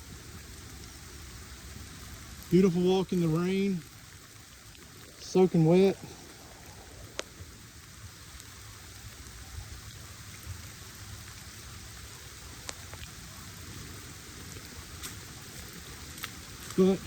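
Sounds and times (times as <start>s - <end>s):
raindrops ticking close by: 0.0s - 17.0s
steady rain hiss: 0.0s - 17.0s.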